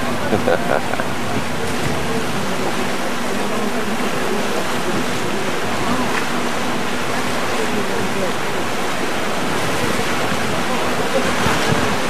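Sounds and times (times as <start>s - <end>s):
water churned by paddle wheels: 0.0s - 12.0s.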